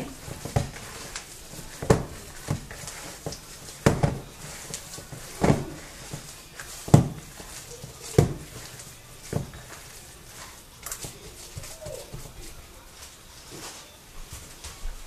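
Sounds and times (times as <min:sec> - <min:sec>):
hand squishing food in plastic bowl: 0:00.0 - 0:13.7.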